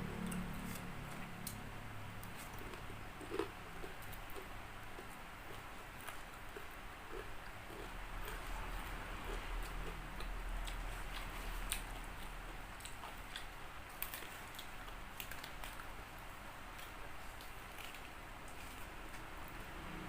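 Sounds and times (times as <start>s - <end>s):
chewing crispy food: 0.1s - 19.8s.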